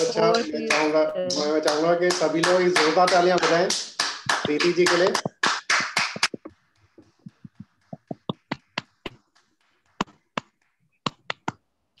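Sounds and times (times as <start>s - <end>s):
hand claps: 0.0s - 11.6s.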